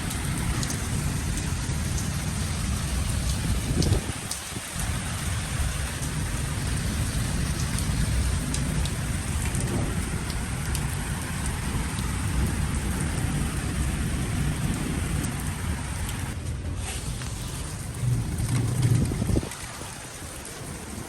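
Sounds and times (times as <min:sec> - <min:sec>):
raindrops ticking: 0:00.0 - 0:16.4, 0:17.2 - 0:21.0
continuous low rumble: 0:00.0 - 0:21.0
steady rain: 0:00.0 - 0:21.0.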